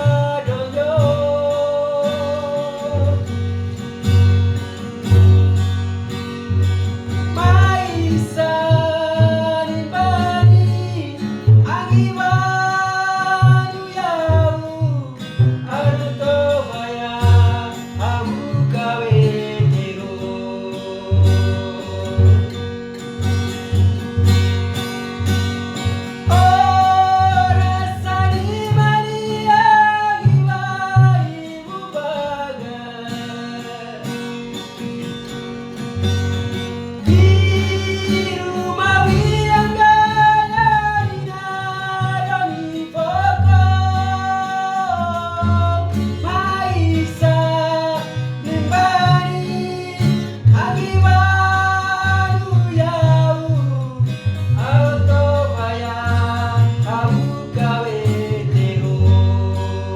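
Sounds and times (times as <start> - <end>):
person singing: 0.0 - 3.3, 7.3 - 22.6, 26.2 - 34.3, 37.0 - 59.9
plucked guitar: 0.0 - 59.9.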